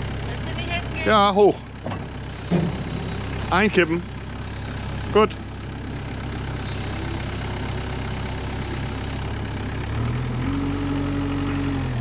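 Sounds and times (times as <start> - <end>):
diesel loader engine running: 0.0 - 12.0.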